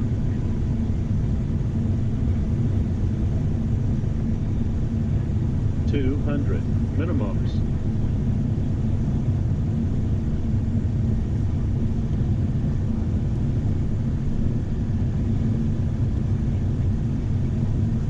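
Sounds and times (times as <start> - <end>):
jet engines and airflow rumble: 0.0 - 18.0.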